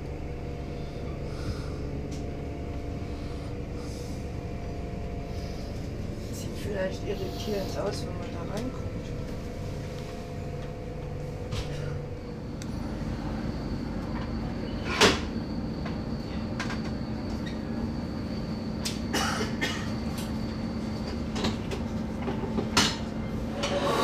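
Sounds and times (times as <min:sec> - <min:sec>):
train rumble: 0:00.0 - 0:24.0
faint high whine: 0:00.2 - 0:21.0.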